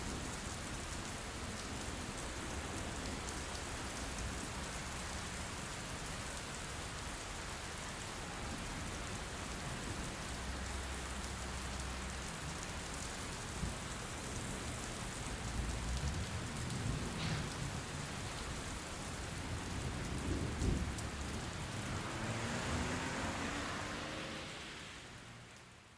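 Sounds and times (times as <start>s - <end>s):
heavy rain falling: 0.0s - 25.9s.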